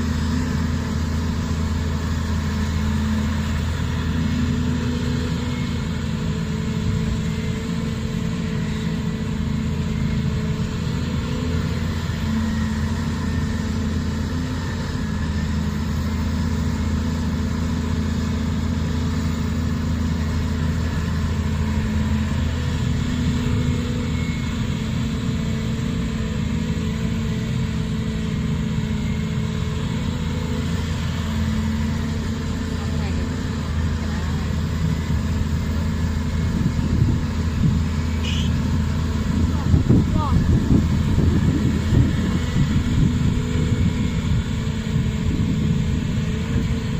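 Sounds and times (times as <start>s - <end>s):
dump truck idling: 0.0s - 46.9s
excavator diesel engine drone: 0.0s - 46.9s.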